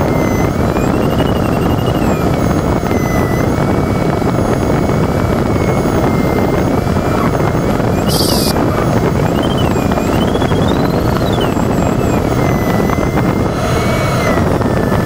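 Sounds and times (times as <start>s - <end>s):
air rushing around cockpit: 0.0s - 15.0s
variometer electronic tone: 0.0s - 15.0s.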